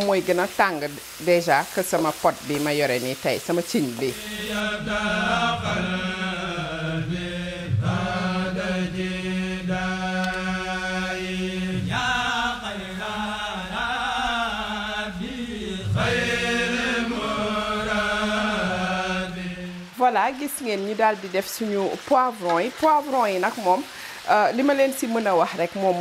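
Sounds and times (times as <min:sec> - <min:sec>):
person chanting: 0:00.0 - 0:26.0.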